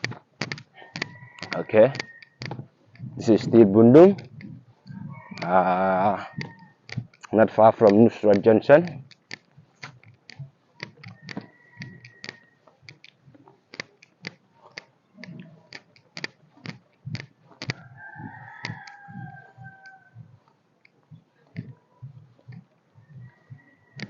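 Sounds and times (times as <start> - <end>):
sharp clicks: 0.0 - 21.8.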